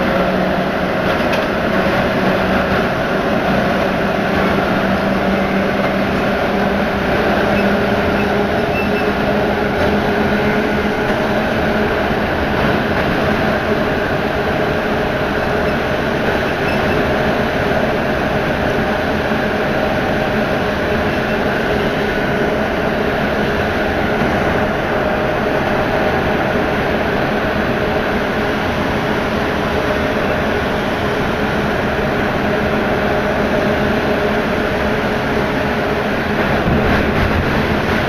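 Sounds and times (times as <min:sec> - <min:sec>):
metro car running noise: 0:00.0 - 0:38.0.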